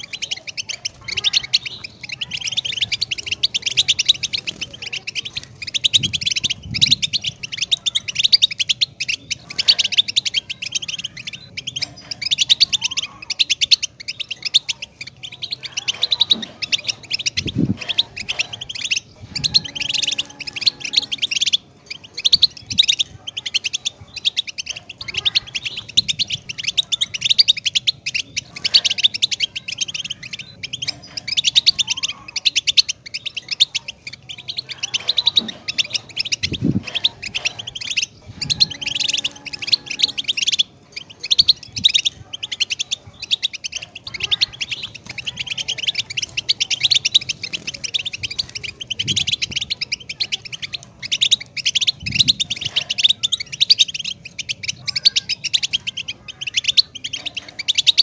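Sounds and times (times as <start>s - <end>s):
goldfinch twittering song: 0.0s - 58.0s.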